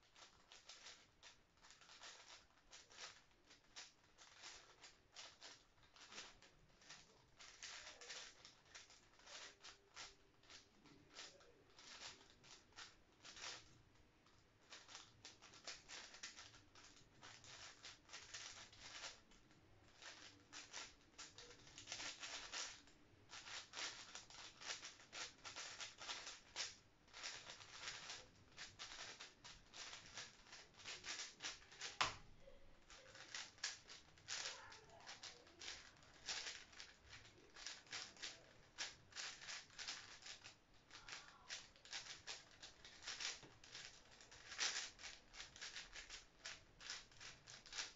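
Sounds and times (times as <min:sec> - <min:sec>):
speed cube plastic clicking: 0:00.0 - 0:47.9.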